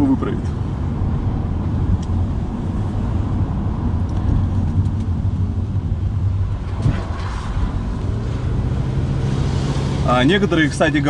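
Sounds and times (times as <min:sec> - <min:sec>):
car engine and tyre noise inside cabin: 0:00.0 - 0:11.0.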